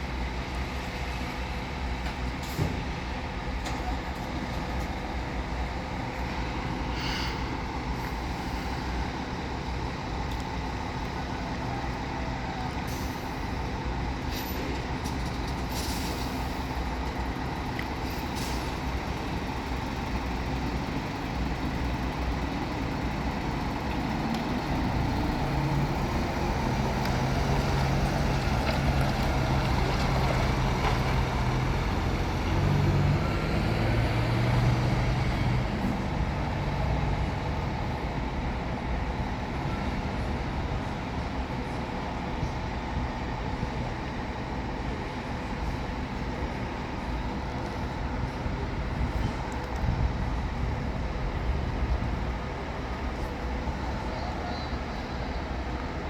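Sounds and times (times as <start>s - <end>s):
diesel coach engine running: 0.0s - 56.0s
road noise: 0.0s - 56.0s.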